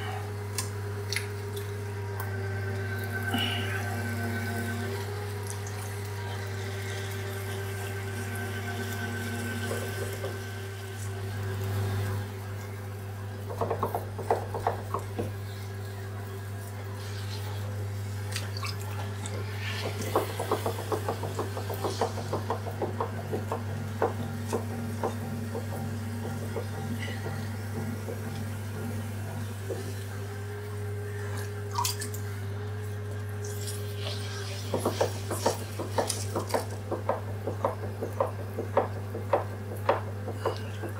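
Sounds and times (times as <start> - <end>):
potter's wheel motor hum: 0.0 - 40.9.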